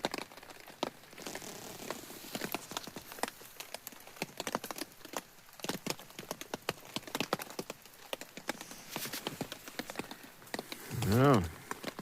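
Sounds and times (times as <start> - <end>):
rain tapping on a tarp: 0.0 - 12.0.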